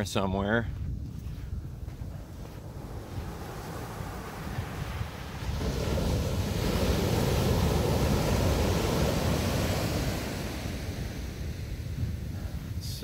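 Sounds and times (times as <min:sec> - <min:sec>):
wave breaking on beach: 0:02.3 - 0:12.8.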